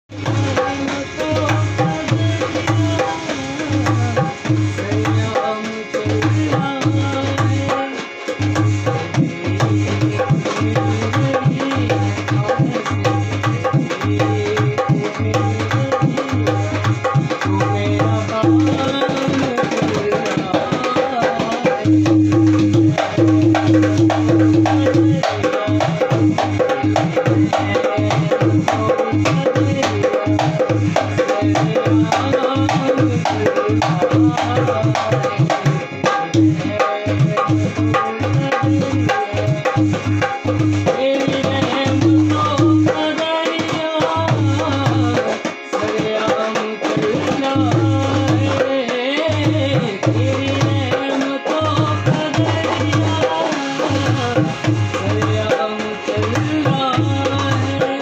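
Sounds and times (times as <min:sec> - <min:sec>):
hand drum playing rhythm: 0:00.1 - 0:58.0.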